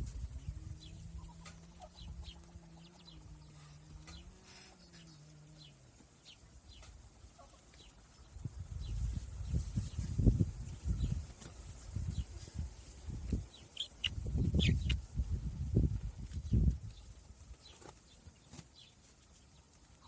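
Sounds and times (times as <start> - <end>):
faint chickens peeping: 0.0 - 20.0.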